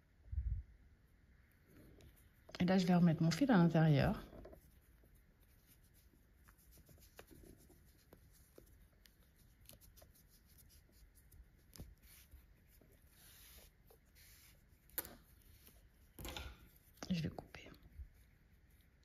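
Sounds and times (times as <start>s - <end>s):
rustling of hands crocheting yarn: 0.0s - 19.0s.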